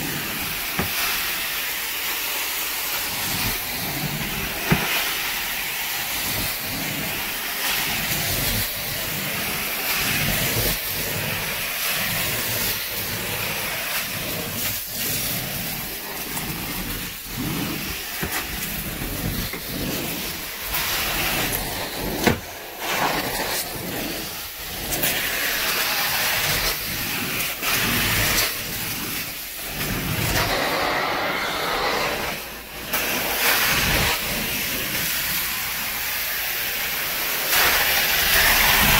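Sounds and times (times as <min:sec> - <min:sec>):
carpet cleaner suction hiss: 0:00.0 - 0:38.9.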